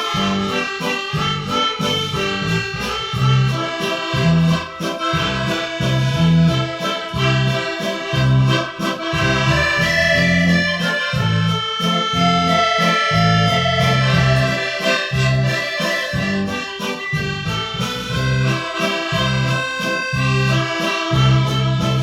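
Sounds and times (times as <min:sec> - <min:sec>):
accordion music: 0:00.0 - 0:22.0
bouncing bass line: 0:00.0 - 0:22.0.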